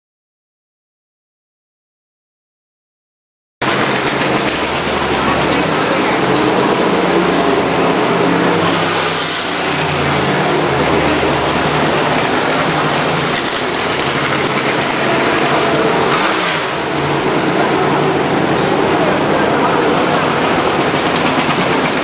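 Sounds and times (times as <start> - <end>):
broad rushing noise: 3.6 - 22.0
race car engines droning: 3.6 - 22.0.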